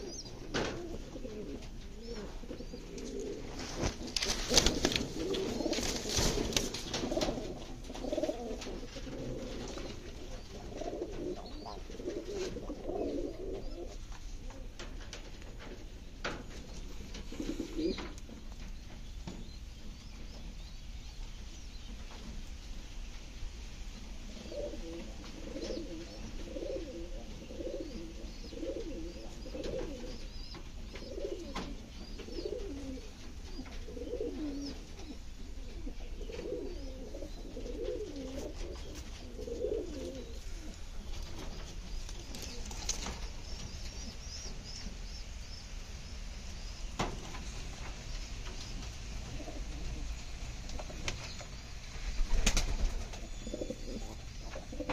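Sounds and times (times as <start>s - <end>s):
pigeons cooing: 0.0s - 18.6s, 24.3s - 45.4s, 48.4s - 54.9s.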